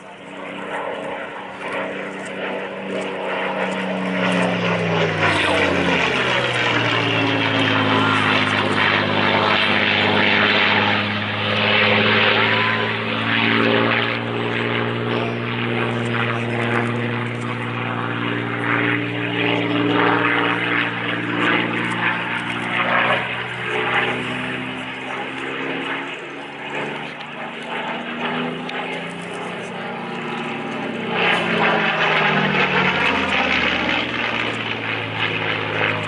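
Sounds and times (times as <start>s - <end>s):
aircraft engine droning: 0.0s - 36.0s.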